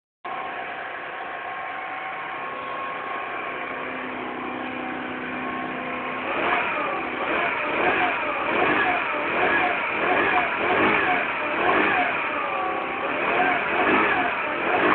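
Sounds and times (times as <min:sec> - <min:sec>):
scooter engine idling and revving: 0:00.3 - 0:14.9.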